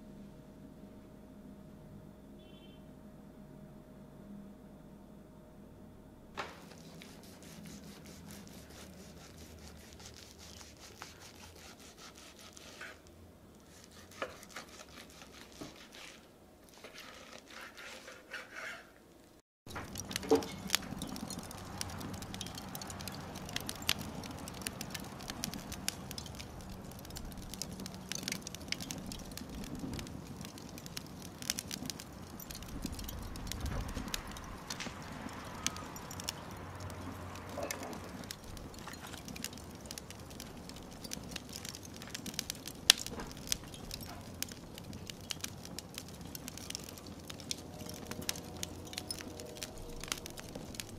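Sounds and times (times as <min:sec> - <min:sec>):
charcoal fire crackling and popping: 0:06.3 - 0:50.9.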